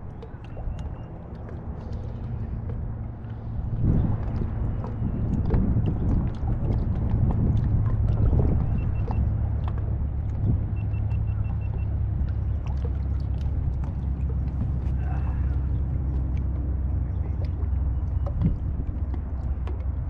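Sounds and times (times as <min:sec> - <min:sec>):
boat engine rumble: 0:00.0 - 0:20.0
faint clicks and ticks: 0:00.0 - 0:20.0.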